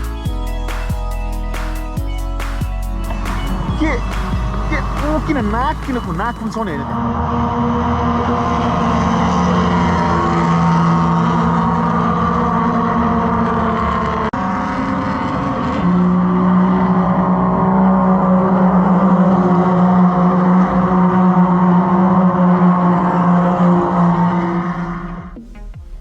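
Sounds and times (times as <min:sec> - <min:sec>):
race car engines running: 0:03.0 - 0:26.0.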